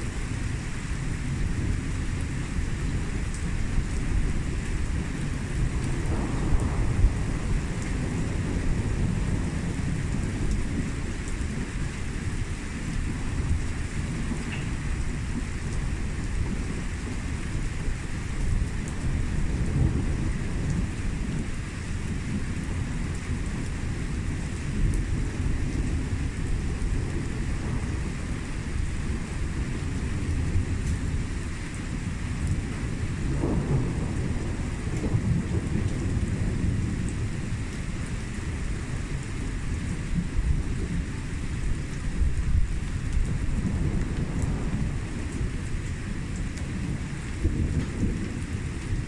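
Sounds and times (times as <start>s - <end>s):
low rumble of thunder: 0.0s - 49.0s
steady rain: 0.0s - 49.0s.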